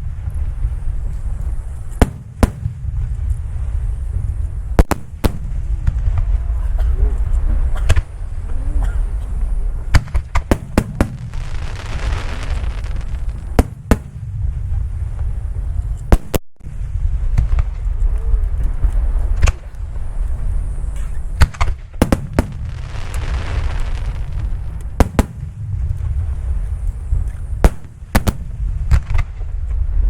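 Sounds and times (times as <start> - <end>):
continuous low rumble: 0.0 - 30.0
fireworks bursting with sharp bangs: 0.0 - 30.0.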